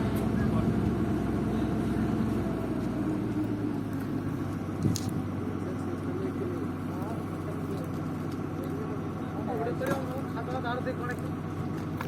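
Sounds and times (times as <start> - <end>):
drilling rig engine humming: 0.0 - 12.0.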